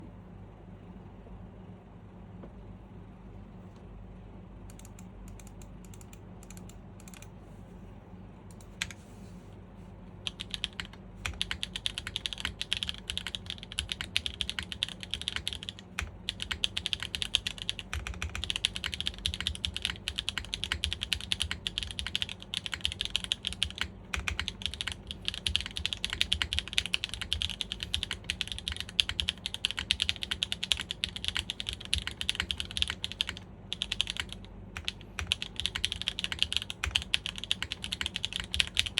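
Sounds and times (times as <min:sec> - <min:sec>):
low steady hum: 0:00.0 - 0:38.9
mechanical keyboard typing: 0:04.7 - 0:07.3, 0:08.5 - 0:09.0, 0:10.2 - 0:38.9.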